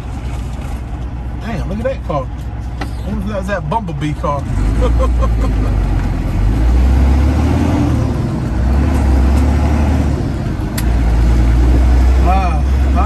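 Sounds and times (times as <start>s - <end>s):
truck diesel engine drone in cab: 0.0s - 13.0s.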